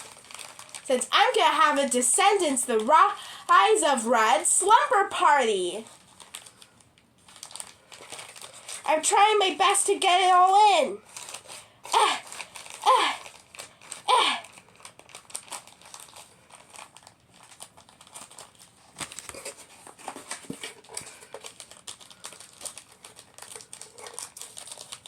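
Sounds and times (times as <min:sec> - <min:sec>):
plastic packaging crinkling: 0:00.0 - 0:04.1, 0:04.7 - 0:25.0.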